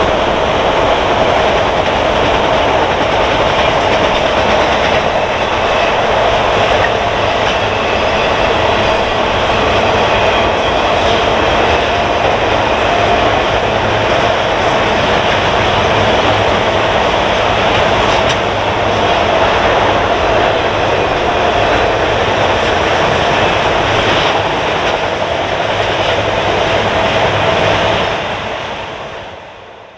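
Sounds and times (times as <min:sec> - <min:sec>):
train cars rolling past: 0:00.0 - 0:29.4.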